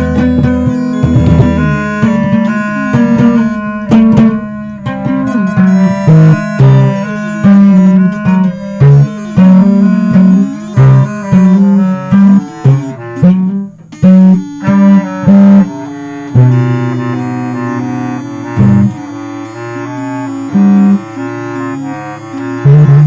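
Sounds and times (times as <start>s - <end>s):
small band playing: 0.0s - 23.0s.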